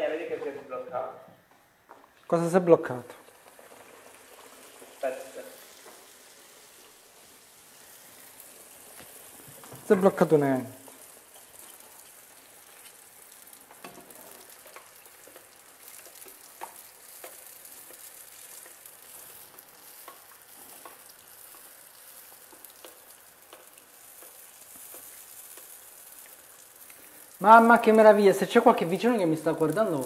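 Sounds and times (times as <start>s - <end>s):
oil sizzling in a frying pan: 1.7s - 30.0s.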